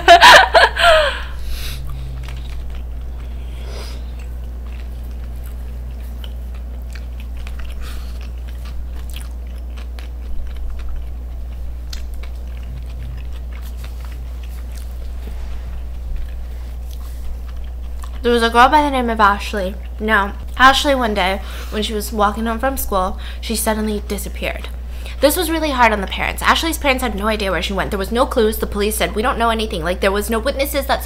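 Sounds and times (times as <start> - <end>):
steady low hum: 0.0 - 31.0
chewing and crunching crisp food: 1.4 - 31.0.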